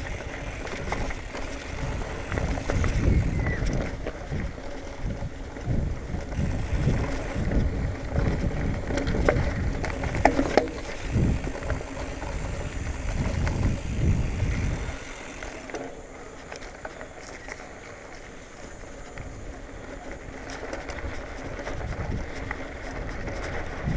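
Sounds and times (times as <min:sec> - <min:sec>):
bike frame rattling: 0:00.0 - 0:23.9
tyres rumbling on dirt: 0:00.0 - 0:23.9.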